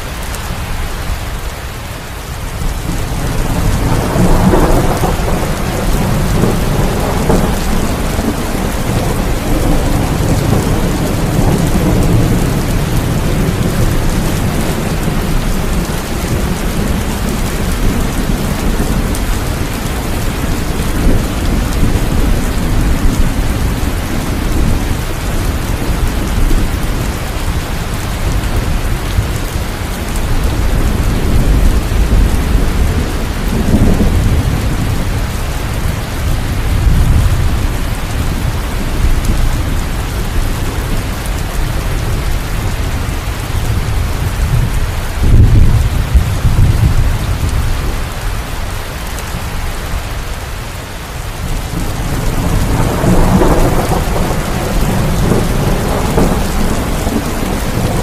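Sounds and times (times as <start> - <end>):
steady rainfall: 0.0 - 58.0
rolling thunder rumbles: 2.5 - 48.4, 51.3 - 58.0.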